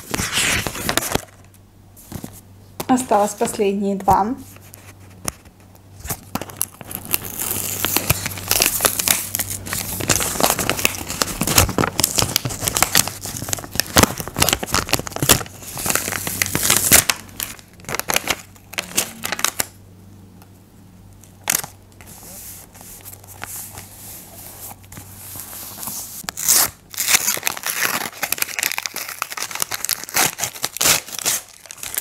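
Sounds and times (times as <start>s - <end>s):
paper crinkling and rustling: 0.0s - 2.4s, 4.4s - 19.7s, 21.4s - 32.0s.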